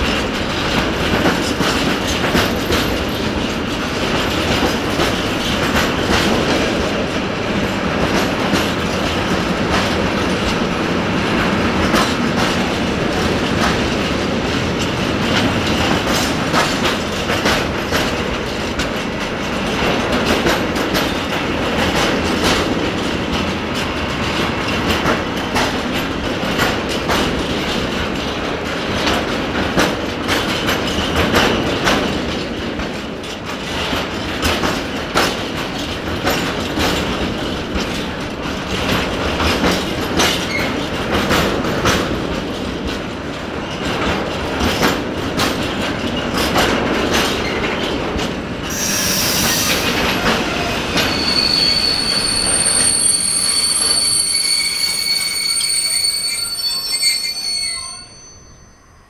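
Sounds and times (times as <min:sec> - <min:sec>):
wheels clicking over rail joints: 0:00.0 - 0:48.7
train wheels rumbling on rail: 0:00.0 - 0:59.0.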